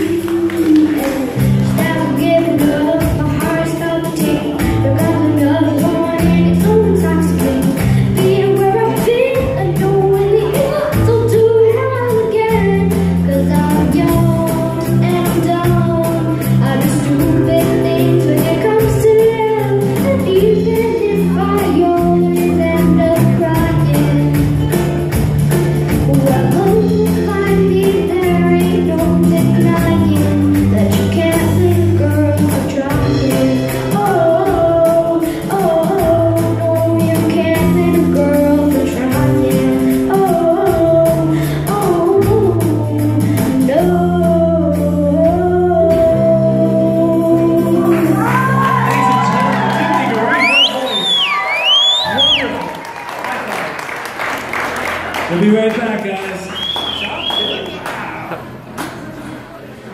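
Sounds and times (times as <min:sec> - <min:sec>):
woman singing: 0:00.0 - 0:25.0, 0:25.8 - 0:52.0.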